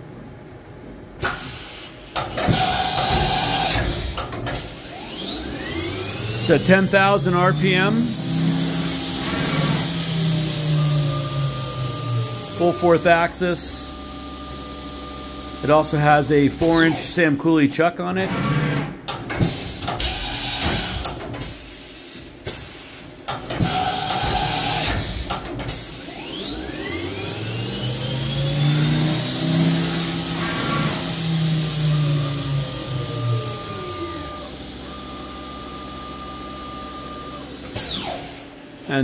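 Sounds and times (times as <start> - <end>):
machine motor whining: 2.0 - 19.1, 23.3 - 39.0.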